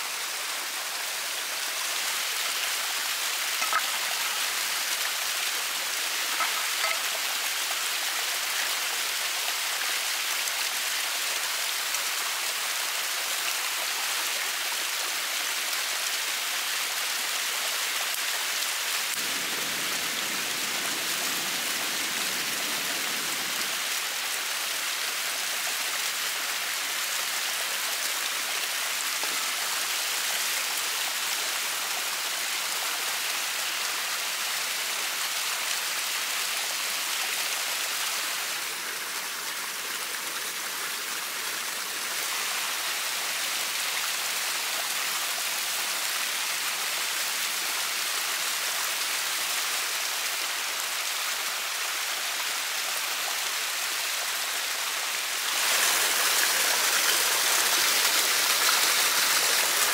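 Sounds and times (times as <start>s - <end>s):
waterfall splashing: 0.0s - 59.9s.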